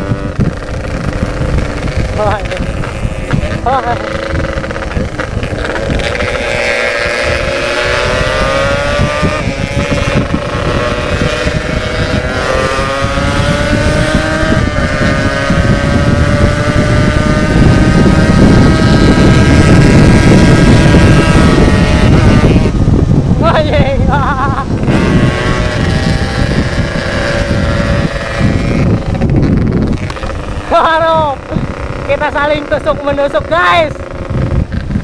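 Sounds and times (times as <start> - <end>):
motorcycle engine accelerating: 0.0 - 35.0
wind noise: 0.0 - 35.0.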